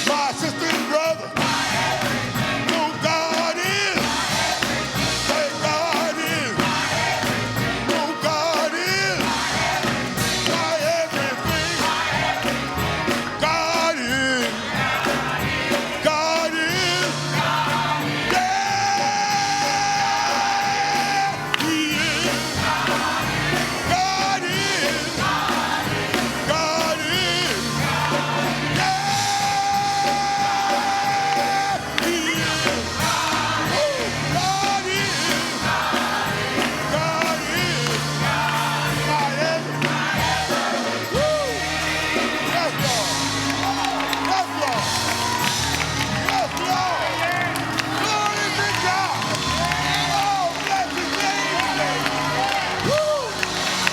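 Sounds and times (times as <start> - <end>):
instrumental accompaniment with bass: 0.0 - 53.9
person singing church music: 0.0 - 53.9.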